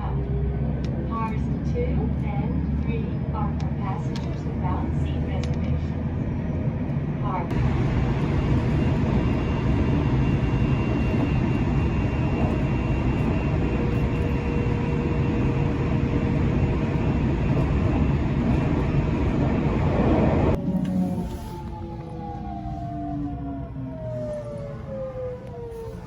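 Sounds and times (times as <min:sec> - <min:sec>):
electric train rumble: 0:00.0 - 0:26.0.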